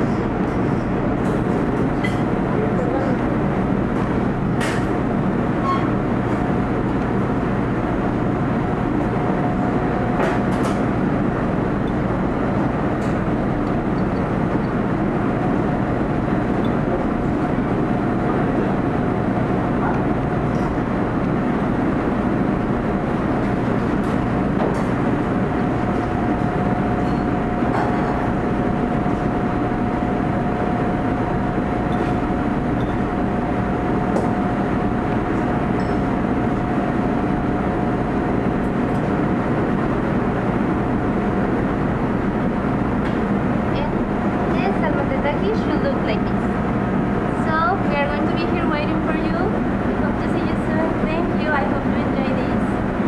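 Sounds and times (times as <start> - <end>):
kitchen ventilation rush: 0.0 - 53.0.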